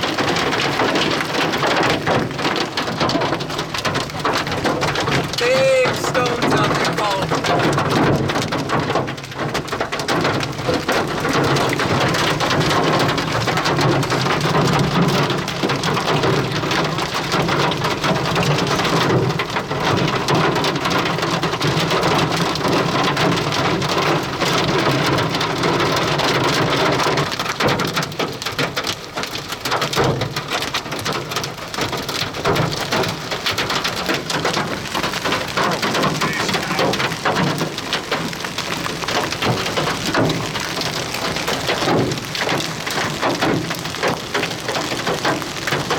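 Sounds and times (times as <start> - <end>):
heavy rain pelting a vehicle: 0.0 - 45.9.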